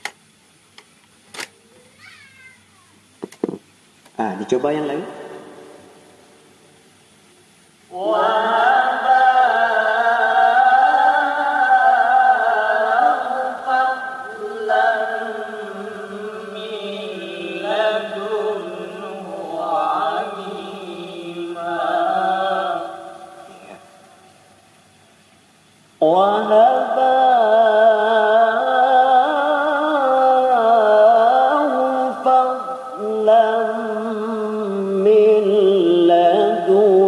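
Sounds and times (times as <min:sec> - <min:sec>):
person reciting melodically: 0:04.1 - 0:06.2, 0:07.8 - 0:24.5, 0:25.8 - 0:37.0.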